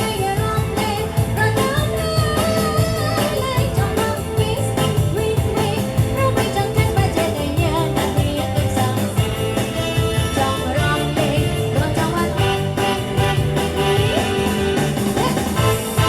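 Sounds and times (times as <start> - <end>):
bass line: 0.0 - 16.0
live rock and roll band: 0.0 - 16.0
drum beat: 0.1 - 16.0.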